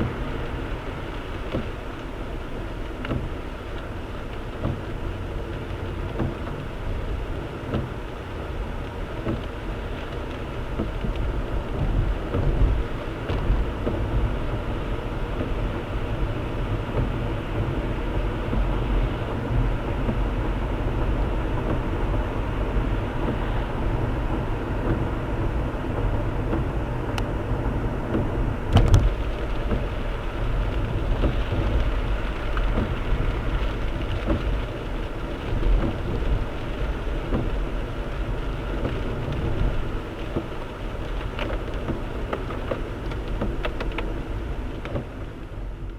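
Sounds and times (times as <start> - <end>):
car road and engine rumble: 0.0 - 45.9
heavy rain on car: 0.0 - 45.9.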